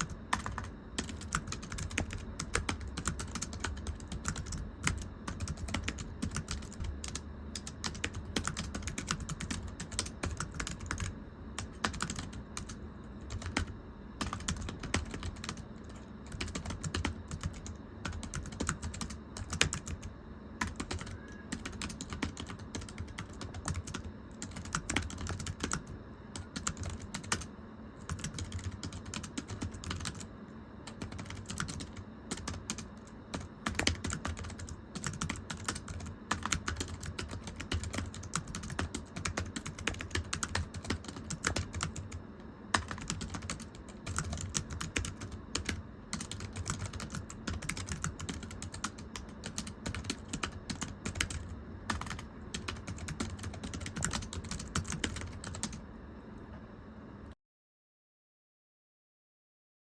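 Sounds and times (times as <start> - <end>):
typing on thin keyboard: 0.0 - 30.3, 30.9 - 55.8.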